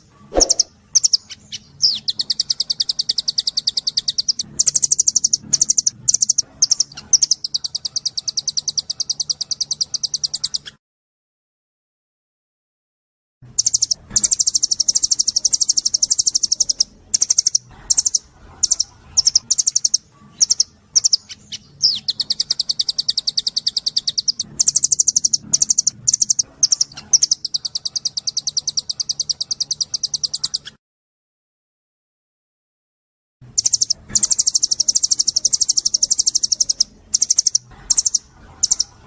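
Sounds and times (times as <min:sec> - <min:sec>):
songbird singing trills: 0:00.0 - 0:10.8, 0:13.5 - 0:30.8, 0:33.5 - 0:39.0.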